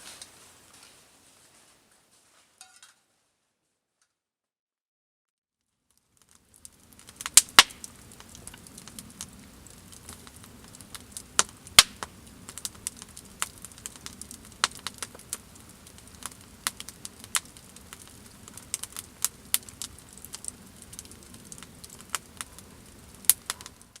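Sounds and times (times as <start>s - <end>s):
wood fire crackling: 0.0s - 3.4s, 5.9s - 24.0s
low steady hiss: 0.0s - 3.6s, 5.9s - 24.0s.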